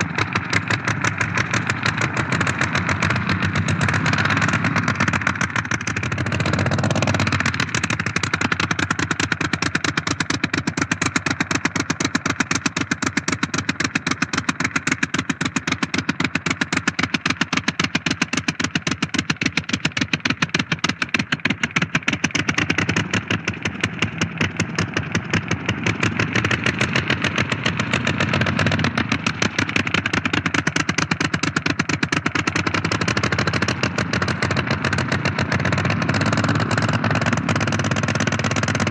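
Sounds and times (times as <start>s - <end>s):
propeller plane engine running: 0.0s - 38.9s.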